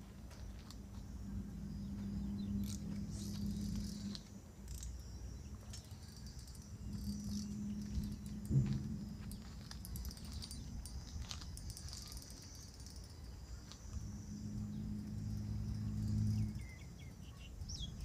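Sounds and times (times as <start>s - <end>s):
insects chirping: 0.0s - 18.0s
low steady hum: 0.0s - 18.0s.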